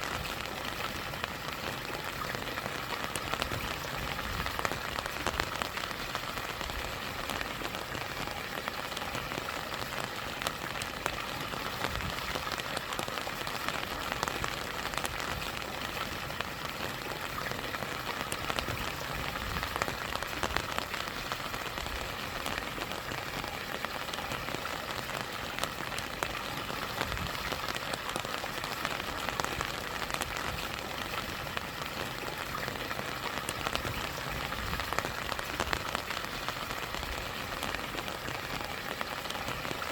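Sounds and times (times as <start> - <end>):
rain drops ticking: 0.0 - 39.9
small waterfall: 0.0 - 39.9.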